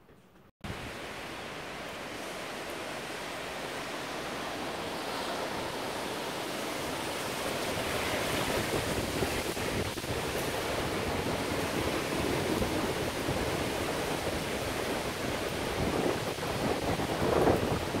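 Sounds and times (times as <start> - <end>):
gusting wind: 0.6 - 18.0
heavy rain falling: 0.6 - 18.0
wind buffeting microphone: 2.8 - 18.0.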